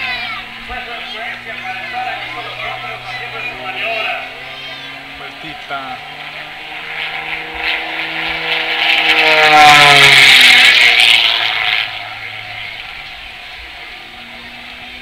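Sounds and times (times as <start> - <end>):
propeller plane engine passing: 0.0 - 15.0.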